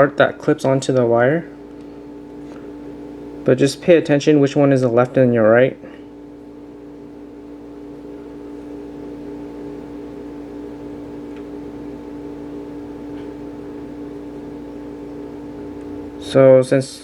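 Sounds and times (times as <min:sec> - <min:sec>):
motor humming: 0:00.0 - 0:16.6.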